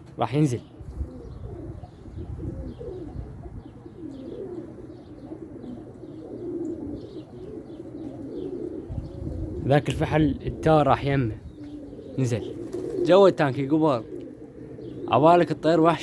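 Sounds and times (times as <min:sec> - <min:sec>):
pigeons cooing: 0:00.0 - 0:16.0
small birds chirping: 0:00.0 - 0:16.0.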